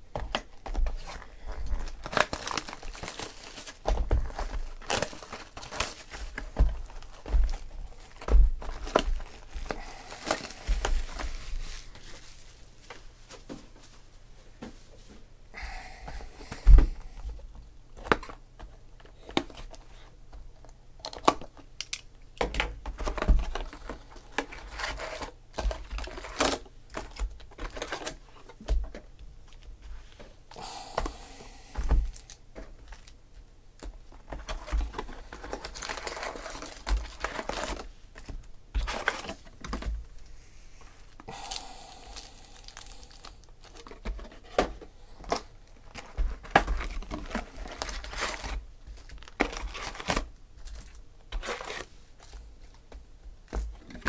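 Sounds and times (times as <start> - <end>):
foil wrappers crinkling: 0.2 - 14.0, 22.8 - 29.7, 30.5 - 54.0.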